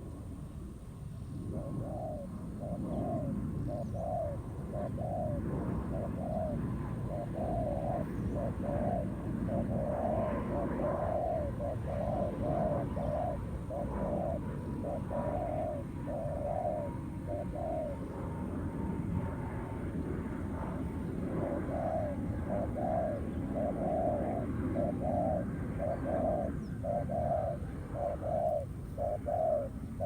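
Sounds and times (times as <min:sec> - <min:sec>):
doves cooing: 0:01.5 - 0:18.6, 0:19.7 - 0:30.0.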